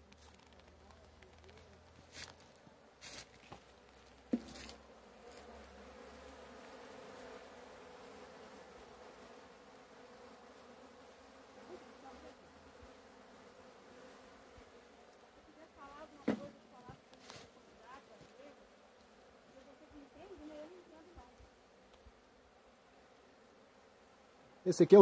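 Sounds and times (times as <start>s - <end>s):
bee swarm buzzing: 0.0s - 25.0s.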